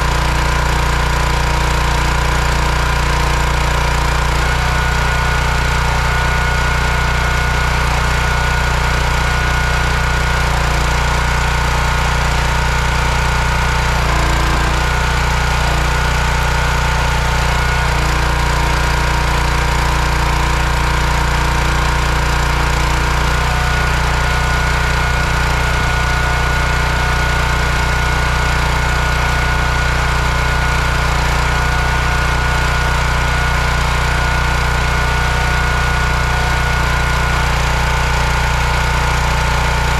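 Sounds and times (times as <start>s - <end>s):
hydraulic ram working a log: 0.0s - 39.9s
small petrol engine running: 0.0s - 39.9s.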